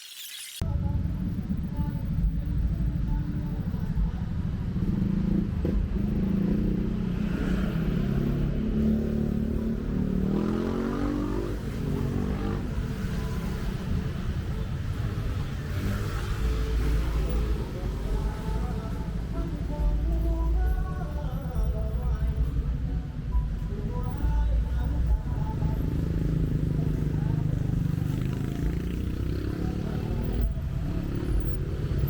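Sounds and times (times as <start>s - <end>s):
cars and motorcycles passing: 1.8s - 21.3s, 22.1s - 32.0s.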